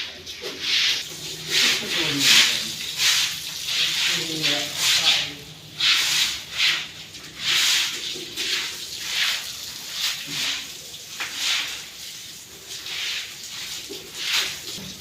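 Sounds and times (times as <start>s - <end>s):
dung being scraped and swept: 0.3s - 14.9s.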